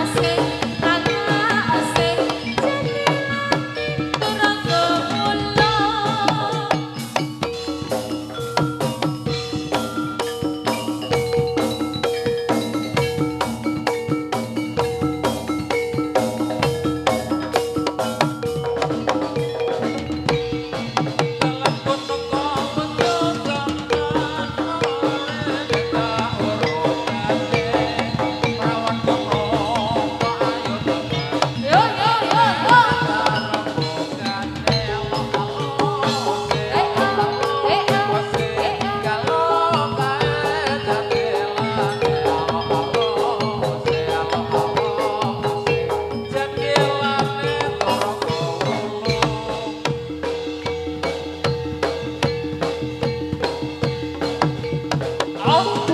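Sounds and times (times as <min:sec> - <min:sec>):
hand drums: 0:00.0 - 0:55.9
struck metallophones: 0:00.0 - 0:55.9
wavering melody line: 0:00.0 - 0:55.9.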